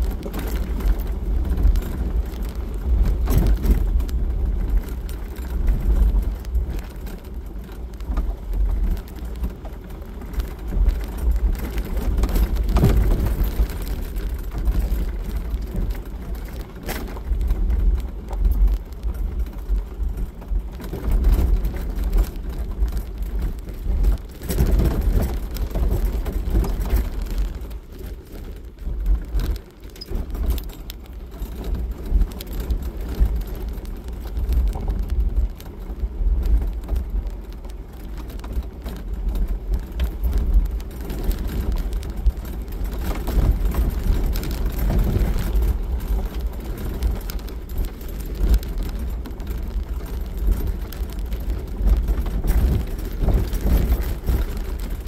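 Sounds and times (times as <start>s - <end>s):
engine and tyre rumble: 0.0s - 55.0s
gravel crunching under tyres: 0.0s - 55.0s
small rattles: 0.0s - 55.0s.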